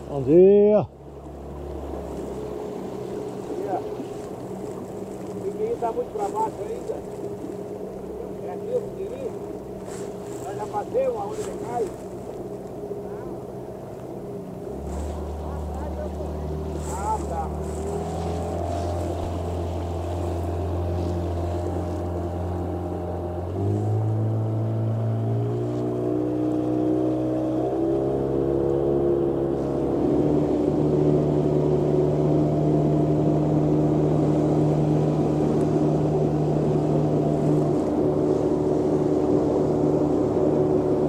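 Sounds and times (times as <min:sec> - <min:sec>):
boat motor running: 0:00.0 - 0:41.0.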